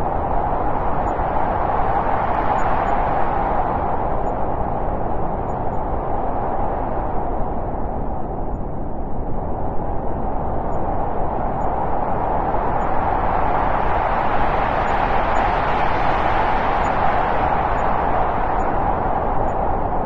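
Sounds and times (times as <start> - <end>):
wind blowing: 0.0 - 20.0.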